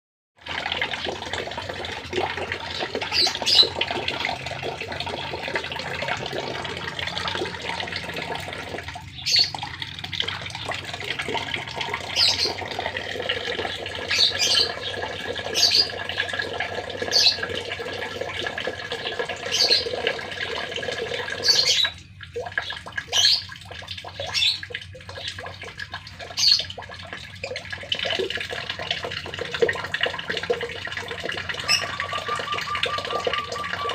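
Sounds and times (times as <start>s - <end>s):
water running from tap: 0.4s - 33.9s.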